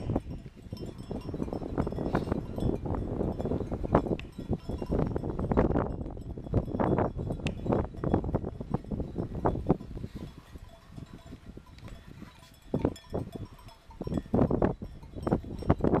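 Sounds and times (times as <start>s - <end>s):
sheep bells clanking: 0.0s - 16.0s.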